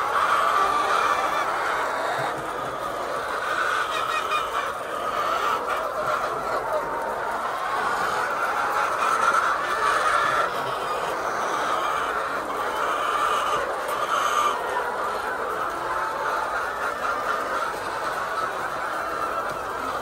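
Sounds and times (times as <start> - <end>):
flock of chickens clucking: 0.0 - 20.0.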